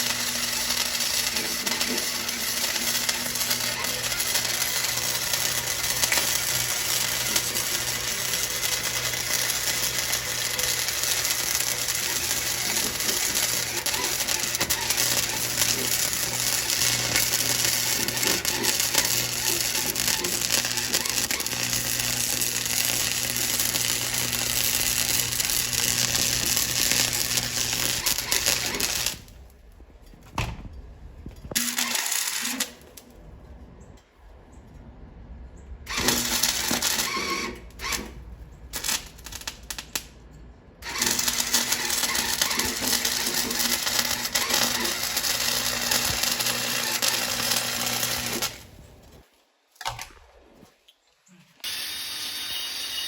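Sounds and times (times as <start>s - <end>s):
welding arc crackling: 0.0s - 29.8s, 31.4s - 33.2s, 35.9s - 40.2s, 40.8s - 49.2s, 51.6s - 53.0s
low electrical hum: 0.0s - 50.8s.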